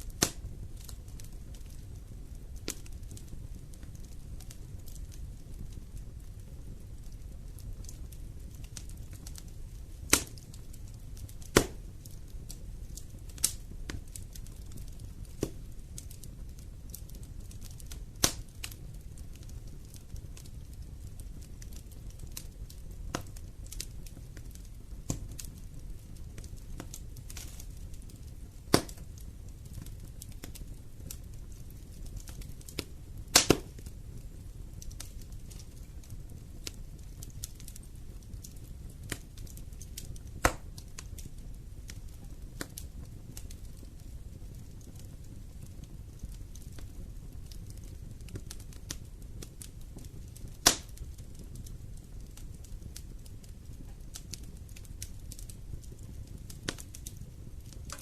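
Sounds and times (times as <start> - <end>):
burning logs popping and snapping: 0.0 - 58.0
low rumble of flames: 0.0 - 58.0.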